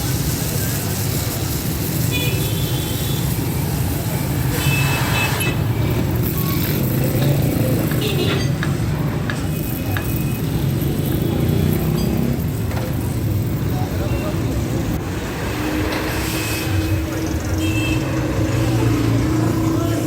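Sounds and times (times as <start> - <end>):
noisy background: 0.0 - 20.0.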